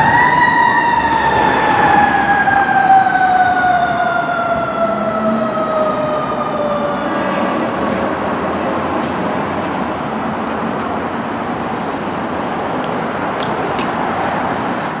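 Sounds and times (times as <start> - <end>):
heavy traffic rumble: 0.0 - 15.0.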